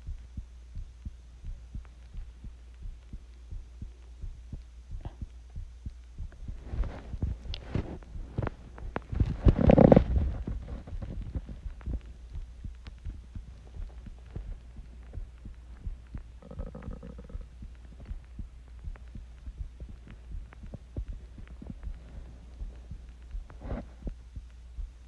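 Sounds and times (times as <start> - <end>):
heartbeat thumps: 0.0 - 25.0
steady low hum: 0.0 - 25.0.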